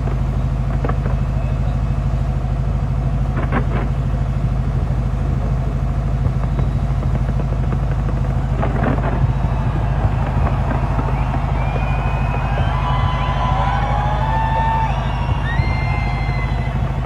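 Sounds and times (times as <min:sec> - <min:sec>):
fireworks crackling pops: 0:00.0 - 0:17.0
low fireworks rumble: 0:00.0 - 0:17.0.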